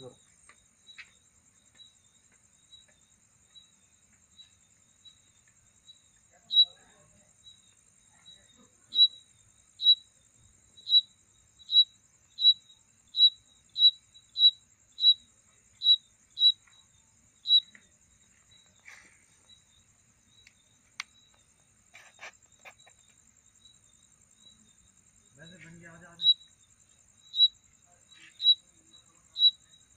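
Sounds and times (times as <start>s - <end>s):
cricket chirping: 0.0s - 29.9s.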